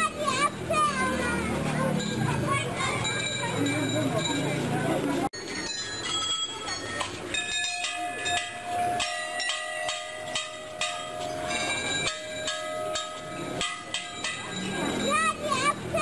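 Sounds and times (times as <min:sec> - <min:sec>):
metal temple bells ringing: 0:00.0 - 0:16.0.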